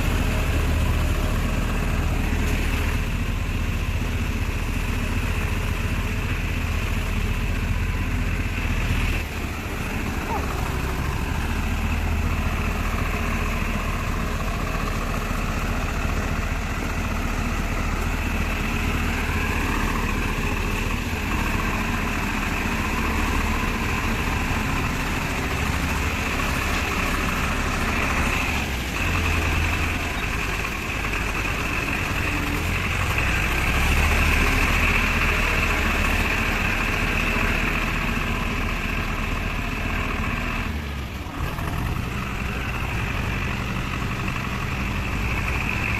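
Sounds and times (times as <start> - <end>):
tractor engine droning: 0.0 - 45.9.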